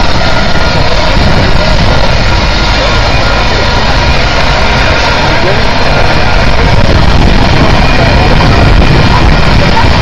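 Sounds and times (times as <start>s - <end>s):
steam locomotive hissing and rumbling: 0.0s - 10.0s.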